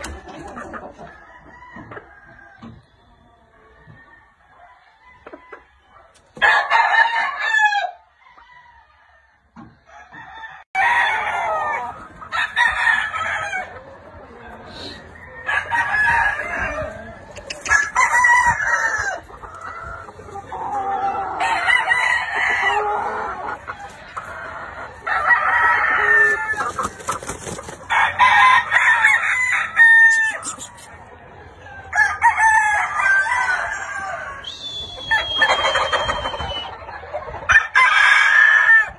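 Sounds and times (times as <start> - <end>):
roosters crowing: 0.0 - 14.0, 14.7 - 36.8, 37.4 - 38.9.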